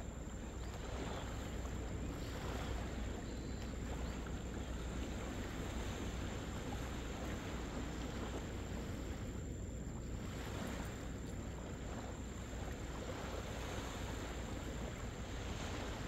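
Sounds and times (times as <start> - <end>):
gentle surf: 0.0 - 16.0.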